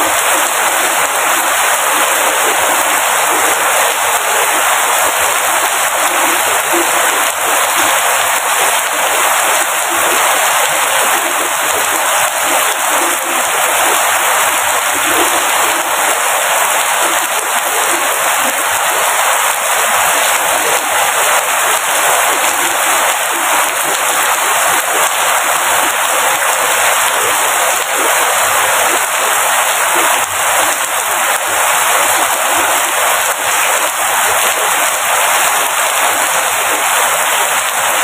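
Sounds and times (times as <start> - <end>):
heavy rainfall: 0.0 - 38.0.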